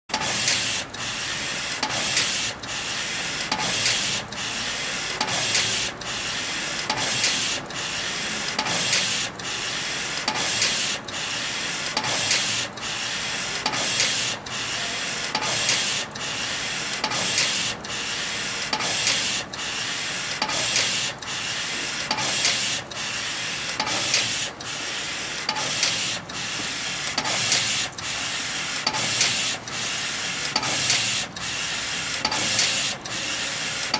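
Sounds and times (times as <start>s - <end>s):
printer carriage whirring: 0.1s - 33.9s.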